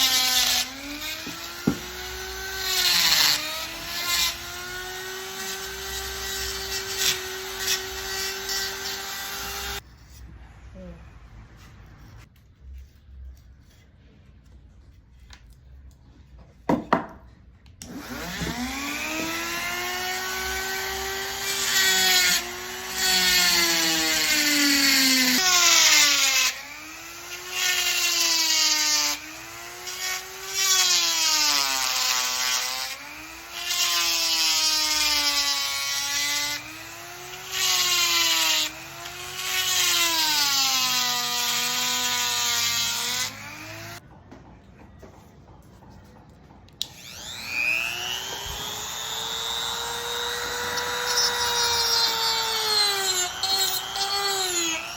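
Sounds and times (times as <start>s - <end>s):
power carving tool motor whine: 0.0s - 9.8s, 17.9s - 44.0s, 46.8s - 54.9s
gritty wood cutting noise: 0.0s - 10.2s, 17.8s - 44.0s, 46.8s - 54.9s.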